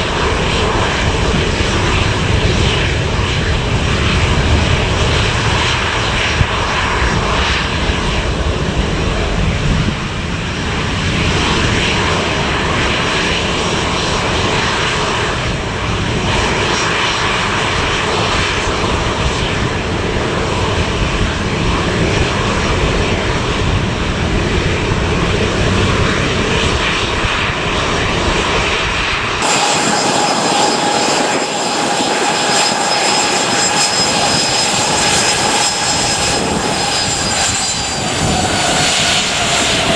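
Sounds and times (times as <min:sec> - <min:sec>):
jet engine whine with whistling: 0:00.0 - 0:39.9
jet engines rumbling at takeoff: 0:00.0 - 0:39.9.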